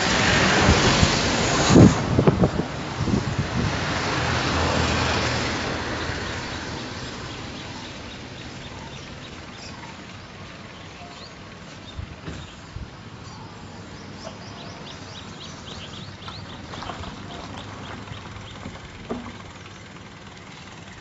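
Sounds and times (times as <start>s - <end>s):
vehicle passing by: 0.0s - 21.0s.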